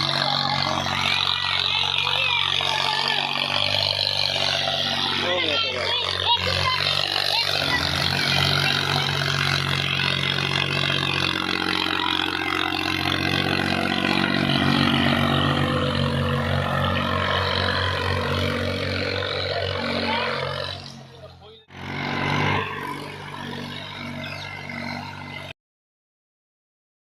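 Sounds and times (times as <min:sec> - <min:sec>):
tractor engine running: 0:00.0 - 0:25.5.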